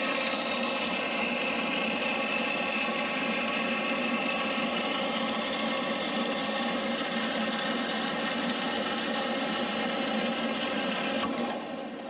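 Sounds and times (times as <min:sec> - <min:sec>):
bandsaw cutting metal tube: 0:00.0 - 0:11.6.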